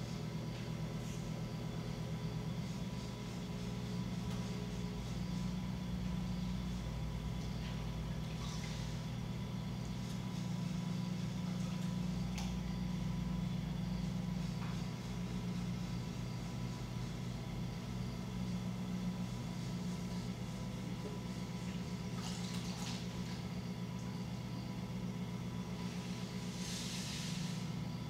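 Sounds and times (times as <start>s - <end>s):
potter's wheel motor hum: 0.0s - 28.0s.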